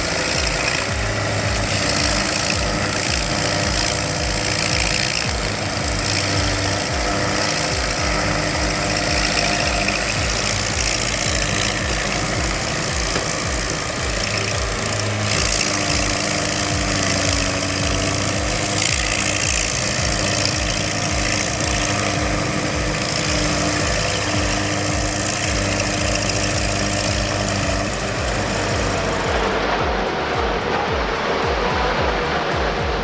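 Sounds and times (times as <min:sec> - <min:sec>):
heavy machine engine running: 0:00.0 - 0:33.0
steady work noise hiss: 0:00.0 - 0:33.0.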